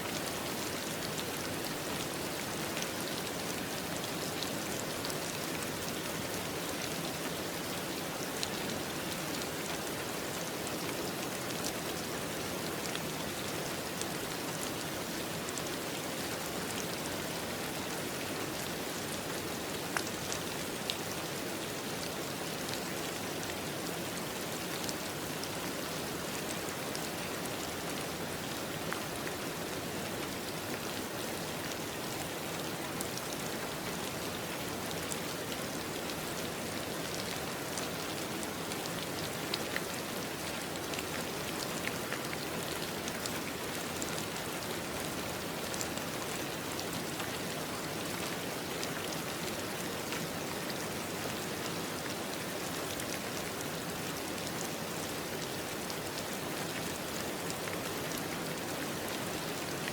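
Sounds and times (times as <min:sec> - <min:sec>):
rain pattering: 0:00.1 - 0:59.9.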